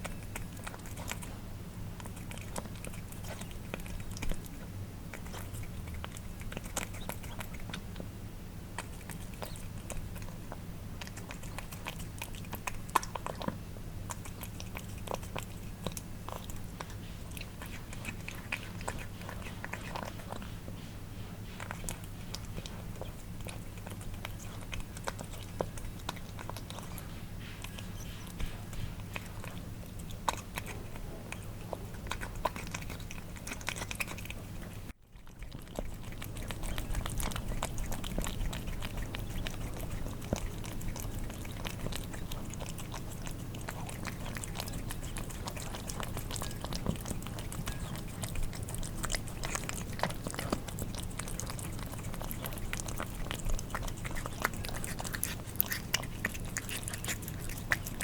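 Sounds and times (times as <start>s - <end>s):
cats chewing and licking: 0.0s - 58.0s
steady low hum: 0.0s - 58.0s.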